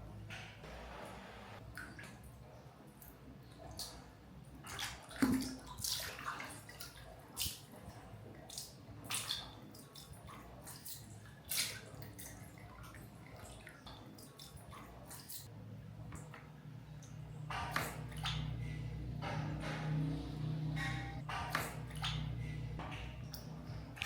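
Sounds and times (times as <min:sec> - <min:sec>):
water splashing and dripping: 0:01.6 - 0:24.0.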